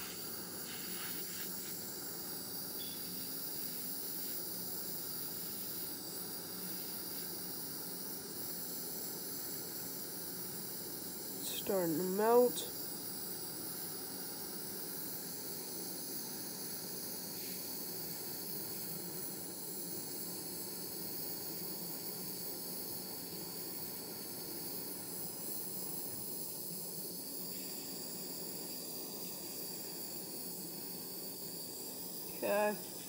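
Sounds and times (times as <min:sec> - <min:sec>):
butane torch hissing: 0:00.0 - 0:33.0.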